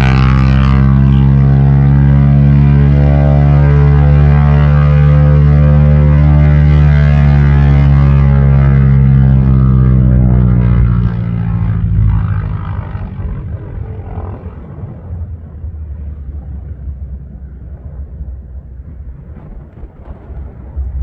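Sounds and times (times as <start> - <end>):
propeller plane engine roaring: 0.0 - 21.0.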